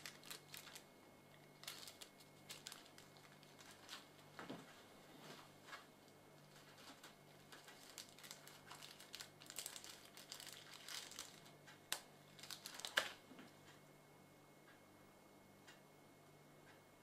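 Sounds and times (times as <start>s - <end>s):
crinkling handling noise: 0.0s - 13.6s
faint low hum: 0.0s - 17.0s.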